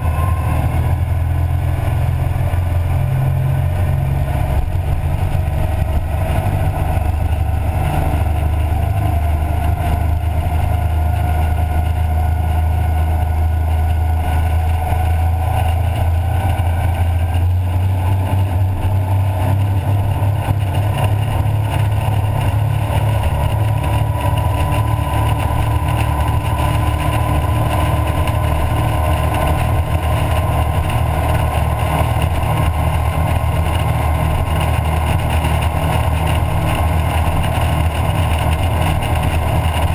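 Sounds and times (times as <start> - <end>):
boat engines droning: 0.0 - 39.9
rising whine: 0.0 - 39.9
wind: 0.0 - 39.9.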